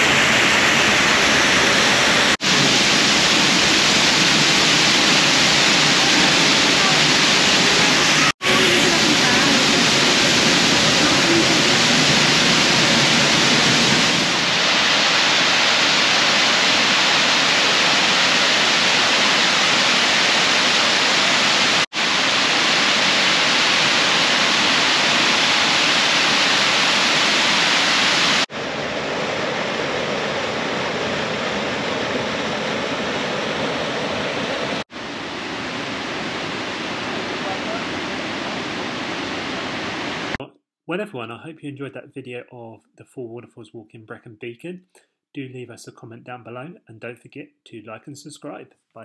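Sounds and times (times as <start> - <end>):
waterfall rushing: 0.0 - 40.4.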